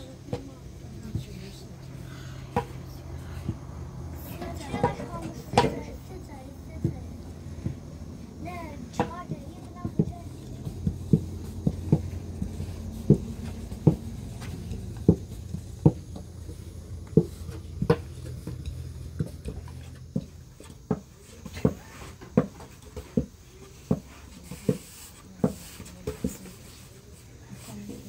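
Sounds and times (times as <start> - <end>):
rolling dough: 0.0 - 28.0.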